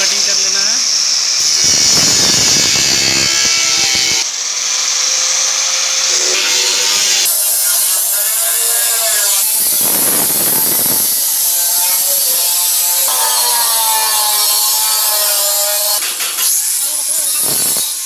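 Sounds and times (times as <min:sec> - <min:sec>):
metal cutting with whine: 0:00.0 - 0:18.0.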